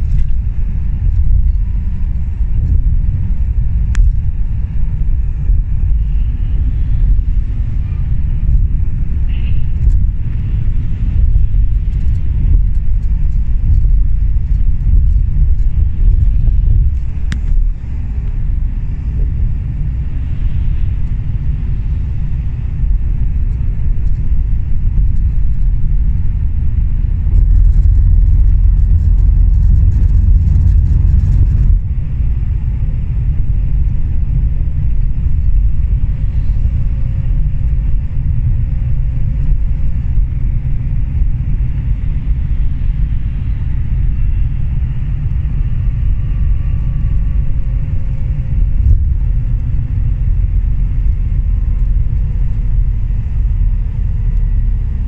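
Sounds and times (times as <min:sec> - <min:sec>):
bus engine and tyre noise: 0:00.0 - 0:55.0.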